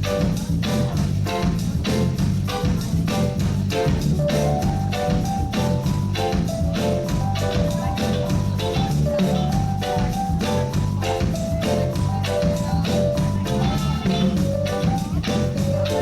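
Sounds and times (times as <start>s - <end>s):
drums keeping a steady beat: 0.0s - 16.0s
heavy bass line: 0.0s - 16.0s
reggae band playing: 0.0s - 16.0s.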